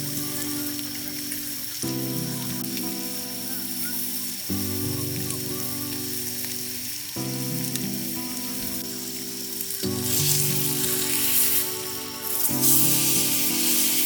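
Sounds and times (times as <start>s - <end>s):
background music: 0.0s - 14.0s
steak sizzling in a skillet: 0.0s - 14.0s.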